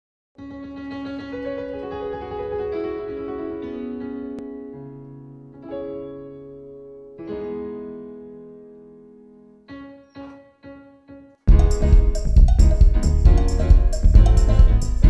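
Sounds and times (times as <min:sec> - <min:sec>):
piano chords: 0:00.4 - 0:15.0.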